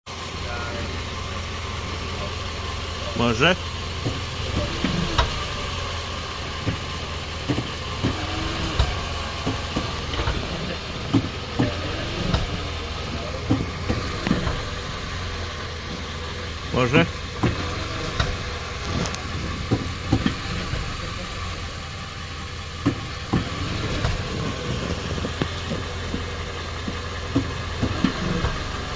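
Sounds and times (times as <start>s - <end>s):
car engine idling: 0.1s - 28.9s
gear shift clunks and knocks: 3.2s - 28.9s.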